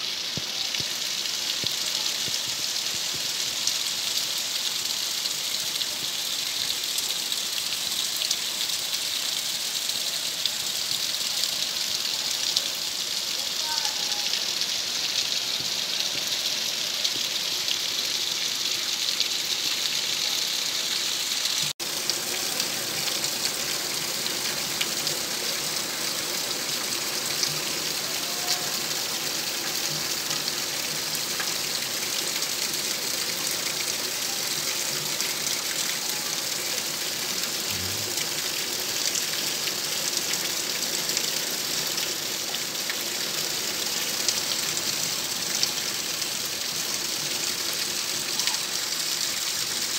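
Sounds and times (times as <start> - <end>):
heavy rain: 0.0 - 49.9
water gushing from spouts: 0.0 - 49.9.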